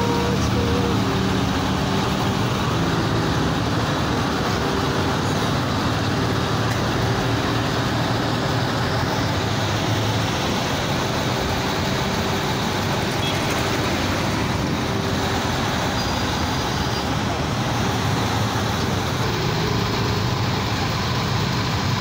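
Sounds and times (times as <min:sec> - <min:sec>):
road traffic with vehicle engines: 0:00.0 - 0:22.0.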